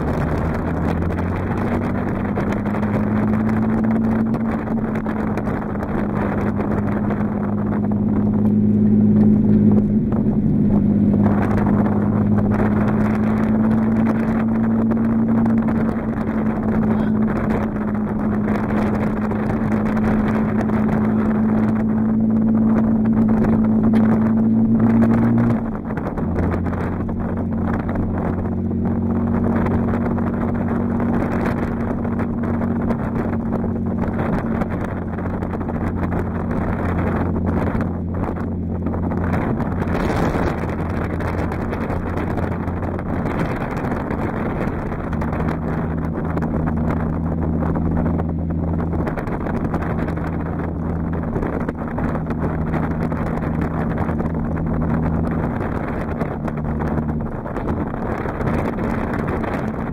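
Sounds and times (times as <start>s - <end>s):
car engine droning in cabin: 0.0s - 59.9s.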